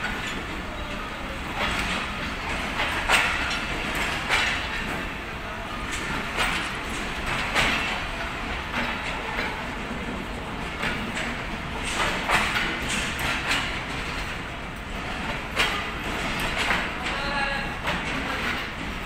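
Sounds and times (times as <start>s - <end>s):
train coaches rumbling: 0.0s - 19.0s
wheels clacking over rail joints: 0.0s - 19.0s.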